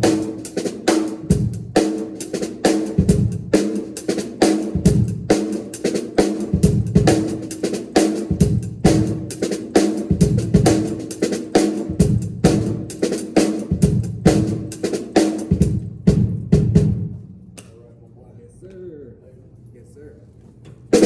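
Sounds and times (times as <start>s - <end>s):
drum kit beat: 0.0s - 17.7s.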